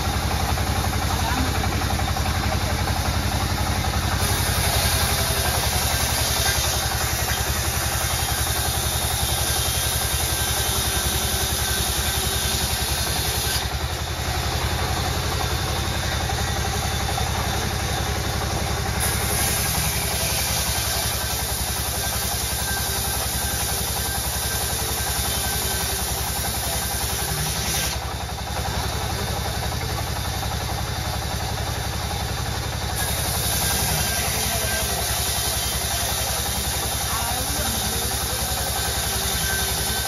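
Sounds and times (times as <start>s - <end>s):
band saw cutting log: 0.0s - 40.0s.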